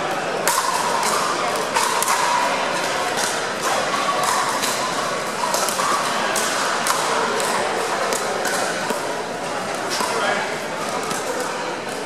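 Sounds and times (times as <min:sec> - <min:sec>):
paddles hitting plastic ball: 0:00.4 - 0:12.0.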